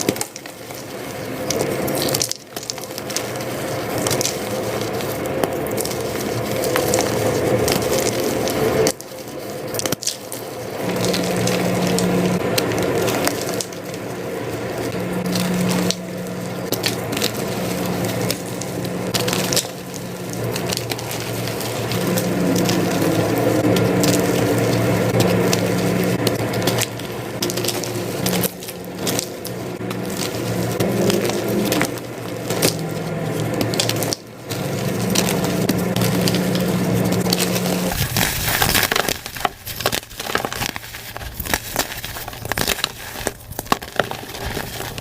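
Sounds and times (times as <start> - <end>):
chalk being crushed by hand: 0.0 - 45.0.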